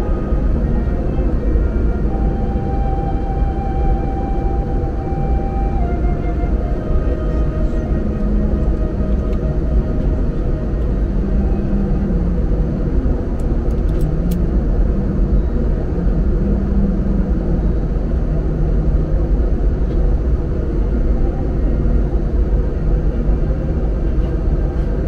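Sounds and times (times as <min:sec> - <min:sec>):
airliner engines and rushing air: 0:00.0 - 0:25.0
faint hum: 0:00.0 - 0:25.0.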